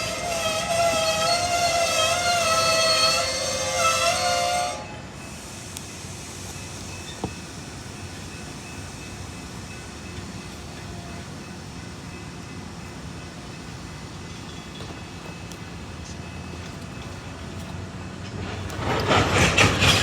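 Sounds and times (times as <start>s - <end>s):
diesel locomotive rumbling: 0.0s - 20.0s.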